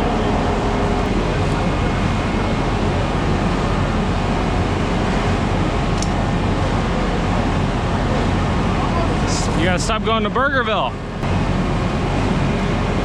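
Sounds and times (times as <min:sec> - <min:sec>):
heavy truck engine droning: 0:00.0 - 0:13.0.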